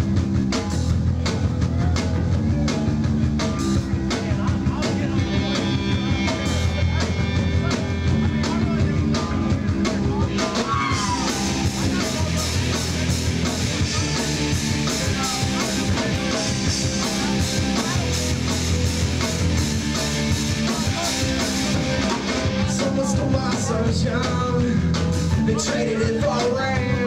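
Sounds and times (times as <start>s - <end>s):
bass guitar: 0.0s - 27.0s
drum kit: 0.0s - 27.0s.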